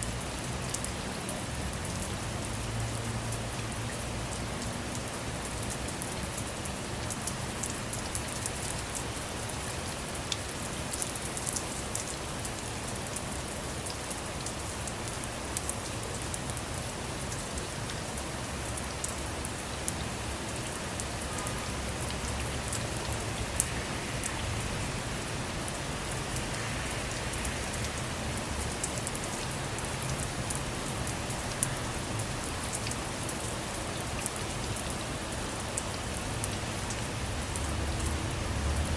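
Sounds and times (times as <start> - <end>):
rain on a car: 0.0 - 38.9.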